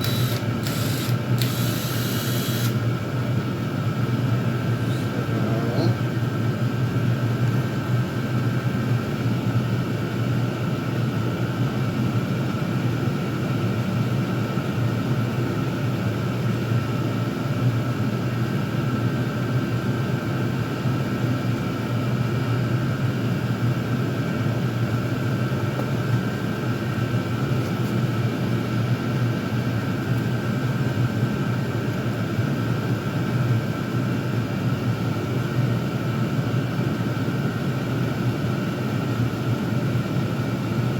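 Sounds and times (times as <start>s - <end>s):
heater burners rumbling: 0.0s - 40.9s
high fan whine: 0.0s - 40.9s.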